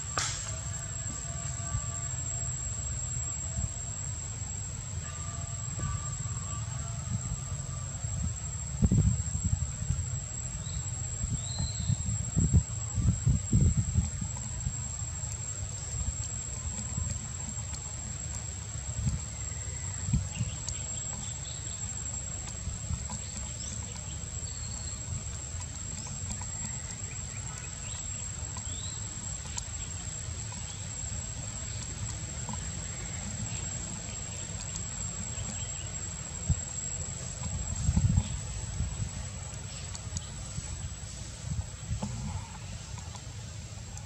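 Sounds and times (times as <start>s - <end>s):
continuous low rumble: 0.0s - 44.0s
high-pitched insect whine: 0.0s - 44.0s.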